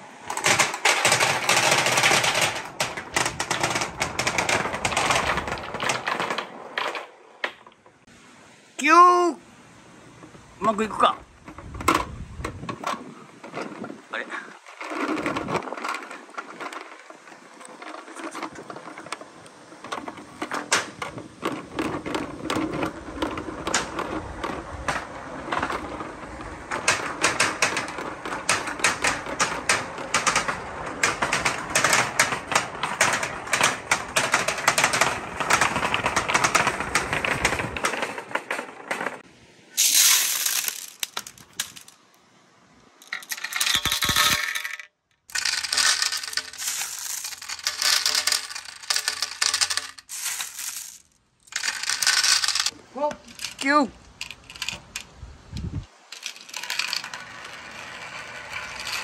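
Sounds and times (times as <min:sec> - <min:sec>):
plastic balls clattering down a tube: 0:00.0 - 0:07.8, 0:11.5 - 0:39.2, 0:39.8 - 0:42.0, 0:43.0 - 0:59.0.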